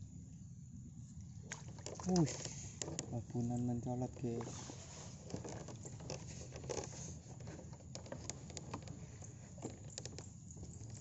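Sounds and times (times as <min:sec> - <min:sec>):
light water patter: 0:01.0 - 0:11.0.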